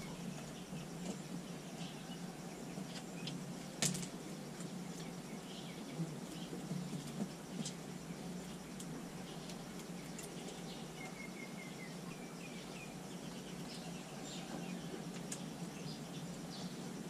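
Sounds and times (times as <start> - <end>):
small bird chirping: 0.0 - 17.0
steady low hum: 0.0 - 17.0.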